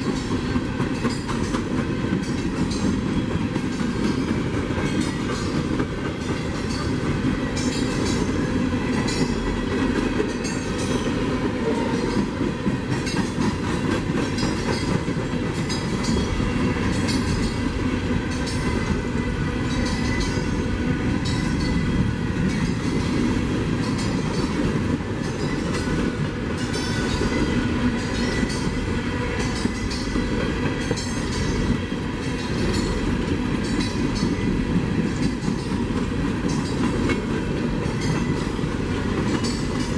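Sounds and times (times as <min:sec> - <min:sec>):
railroad cars rumbling: 0:00.0 - 0:39.9
train wheels clacking on rails: 0:00.0 - 0:39.9.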